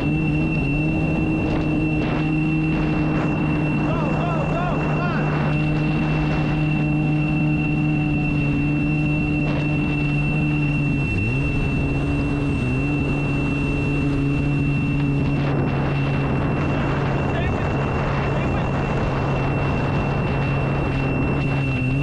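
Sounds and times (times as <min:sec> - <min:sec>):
high-pitched alarm tone: 0:00.0 - 0:17.2, 0:19.1 - 0:22.0
boat engine running: 0:00.0 - 0:22.0.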